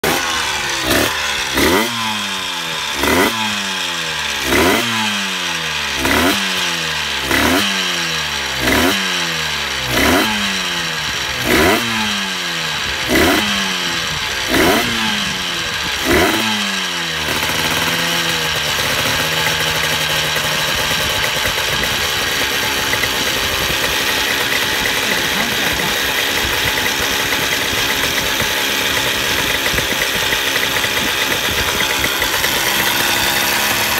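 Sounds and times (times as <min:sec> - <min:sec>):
two-stroke engine revving: 0:00.0 - 0:33.9.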